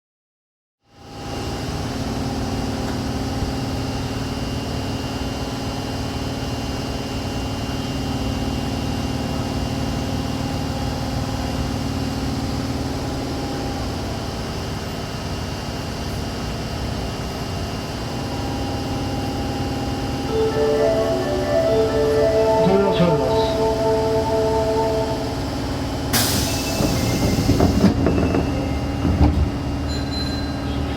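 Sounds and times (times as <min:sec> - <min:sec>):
subway train equipment hum: 0:01.0 - 0:30.9.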